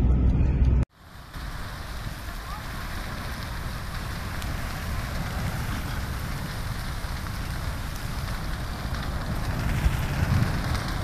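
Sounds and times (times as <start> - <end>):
low rumble: 0.0 - 11.0
fire crackling hiss: 0.9 - 11.0.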